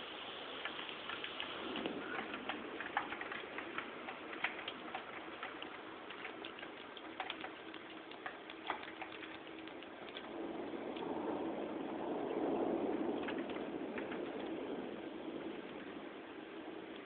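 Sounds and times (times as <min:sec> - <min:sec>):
rain drops ticking on hard surface: 0:00.0 - 0:17.0
steady hiss of rain: 0:00.0 - 0:17.0.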